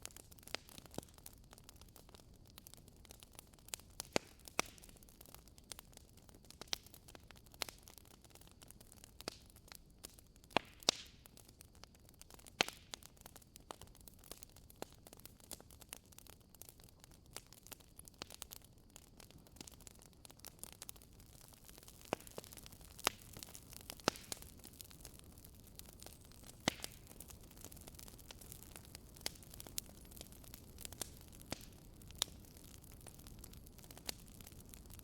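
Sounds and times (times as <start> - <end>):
faint steady hiss: 0.0 - 35.0
wood fire crackling and popping: 0.0 - 35.0.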